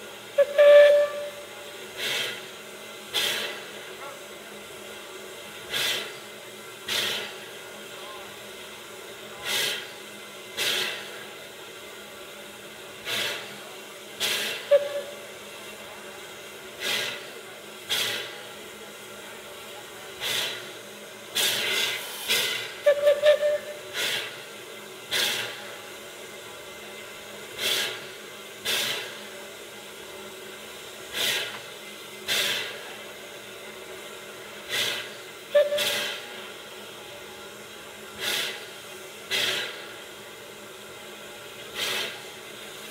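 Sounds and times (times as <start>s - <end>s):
steady steam hiss: 0.0s - 42.9s
steam exhaust puffs: 0.0s - 42.9s.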